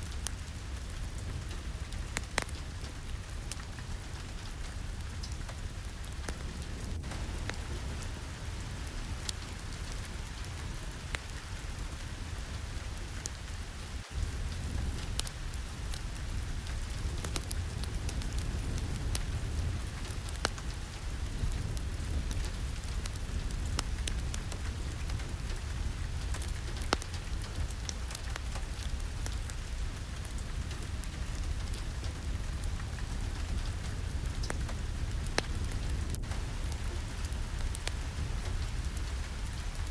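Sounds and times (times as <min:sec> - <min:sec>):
sharp rain drop ticks: 0:00.0 - 0:39.9
steady rain: 0:00.0 - 0:39.9.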